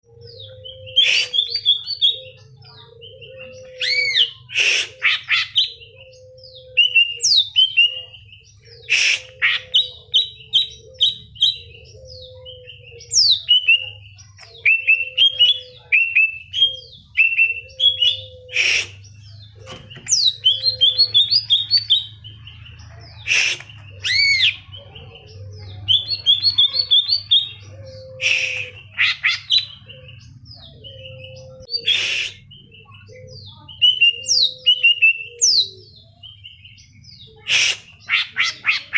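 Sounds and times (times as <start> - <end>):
bird song chirps and whistles: 0.1 - 22.2, 25.9 - 38.8.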